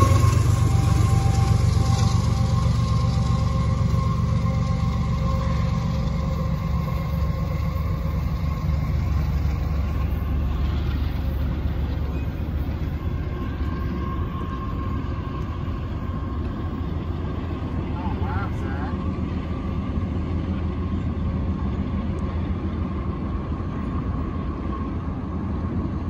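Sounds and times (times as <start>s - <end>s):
faint whines: 0.0s - 26.0s
train rumbling by: 0.0s - 26.0s.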